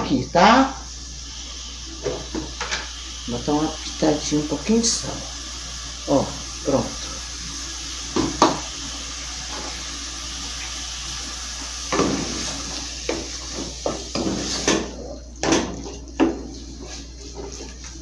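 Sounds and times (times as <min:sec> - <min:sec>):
steady hiss: 0:00.0 - 0:15.2.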